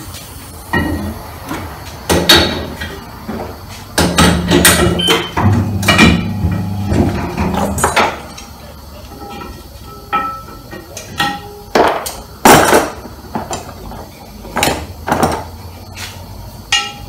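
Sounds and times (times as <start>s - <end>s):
low steady shop hum: 0.0s - 17.0s.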